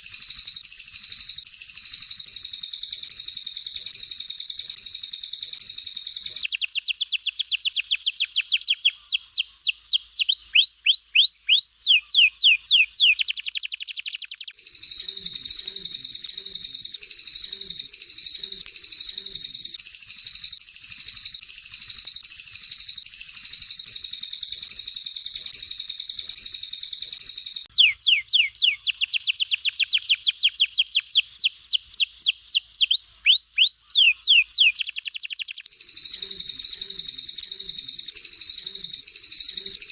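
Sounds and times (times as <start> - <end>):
down-slurred whistled bird notes: 0.0 - 39.9
high rolling bird trill: 6.0 - 39.9.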